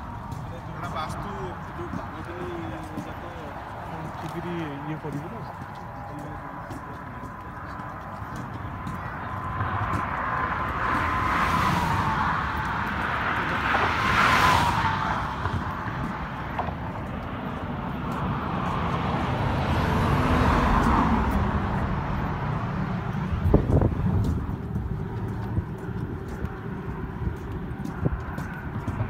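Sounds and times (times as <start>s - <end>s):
falling whine of passing vehicles: 0.0s - 29.0s
highway traffic passing: 0.0s - 29.0s.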